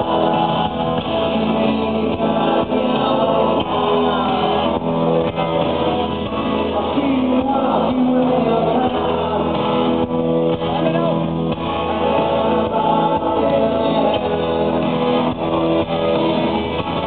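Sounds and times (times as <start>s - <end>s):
live rock band playing: 0.0s - 17.0s
man singing: 0.0s - 17.0s.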